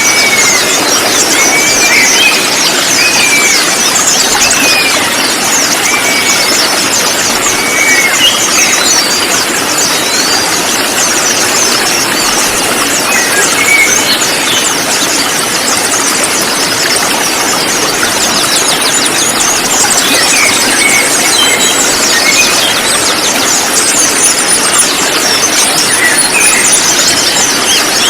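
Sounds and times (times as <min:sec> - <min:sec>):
flock of birds chirping: 0:00.0 - 0:28.0.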